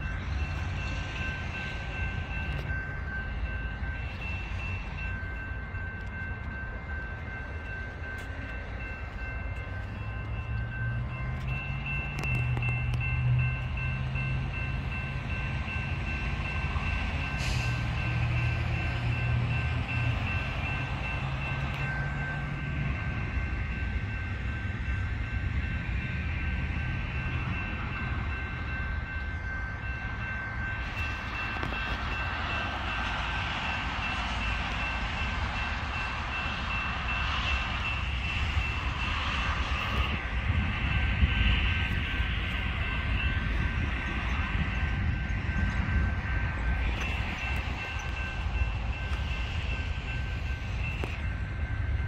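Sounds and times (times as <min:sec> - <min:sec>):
diesel locomotive rumble: 0:00.0 - 0:52.0
railroad crossing bell ringing: 0:00.0 - 0:52.0.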